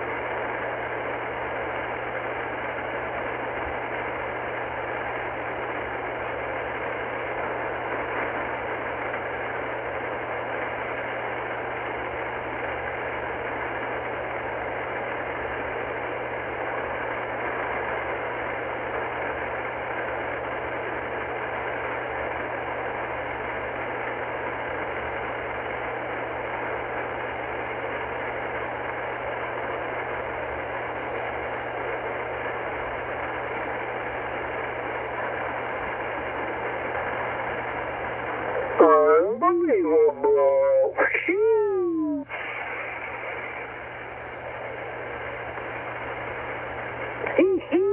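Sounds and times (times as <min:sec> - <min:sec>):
low steady hum: 0:00.0 - 0:47.9
radio static hiss: 0:00.0 - 0:47.9.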